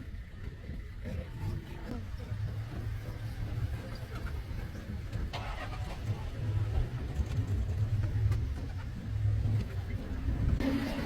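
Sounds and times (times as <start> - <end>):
vehicle engine running low: 0.0 - 11.0.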